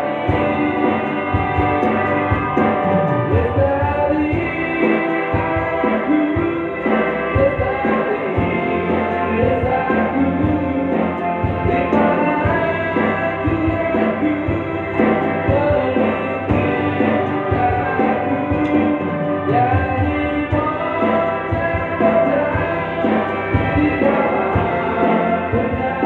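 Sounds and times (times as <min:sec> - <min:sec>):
electric bass guitar: 0:00.0 - 0:26.0
live band music: 0:00.0 - 0:26.0.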